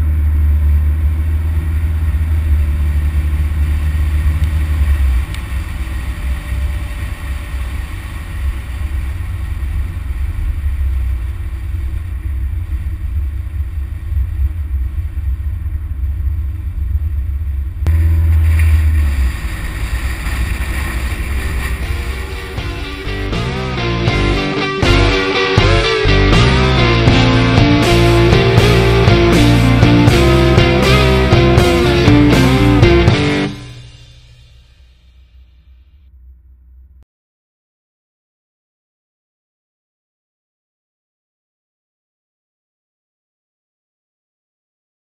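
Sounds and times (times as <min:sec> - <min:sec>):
low steady rumble: 0:00.0 - 0:37.0.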